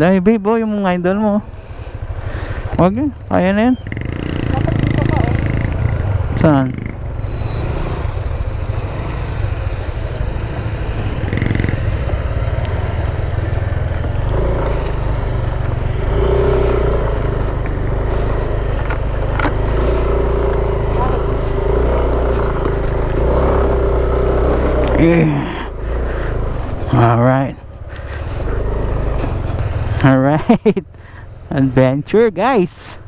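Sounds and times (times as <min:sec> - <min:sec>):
vehicle engines running: 0:00.0 - 0:33.0.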